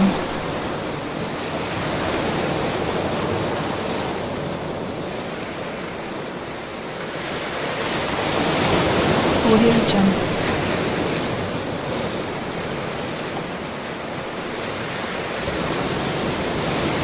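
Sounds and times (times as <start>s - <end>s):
ocean surf washing onto shore: 0.0s - 17.0s.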